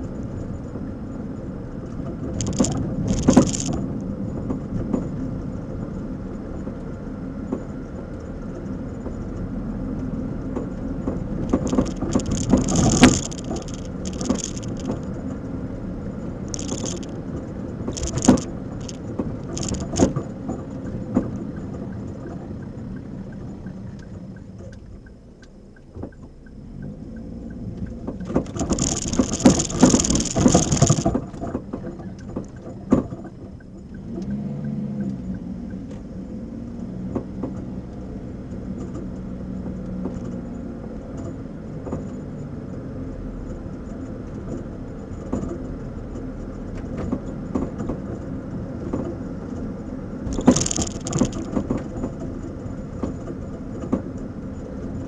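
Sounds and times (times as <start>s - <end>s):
car running noise: 0.0s - 55.0s
suspension knocking and clicking: 1.7s - 55.0s.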